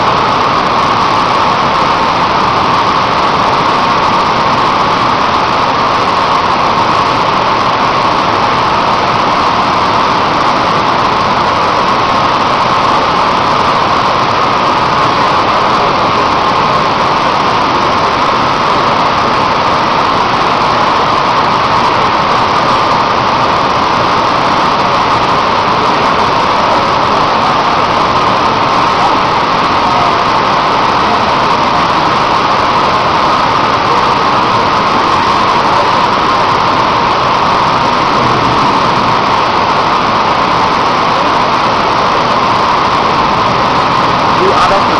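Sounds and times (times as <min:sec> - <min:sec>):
steel plant rushing noise: 0:00.0 - 0:44.9.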